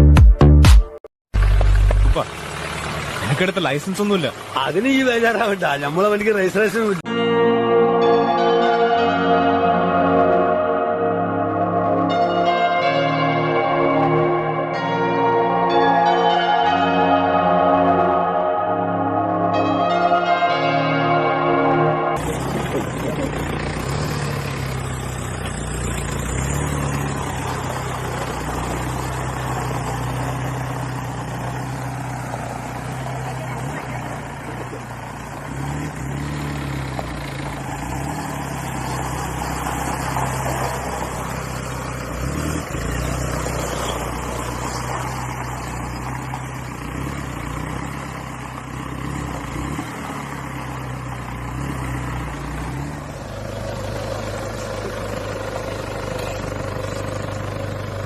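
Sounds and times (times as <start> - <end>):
truck engine idling: 1.4 - 7.1, 8.0 - 58.0.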